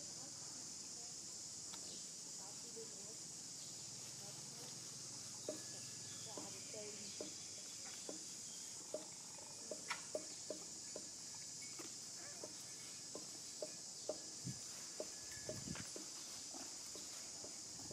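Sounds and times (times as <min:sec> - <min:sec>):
high-pitched insect drone: 0:00.0 - 0:17.9.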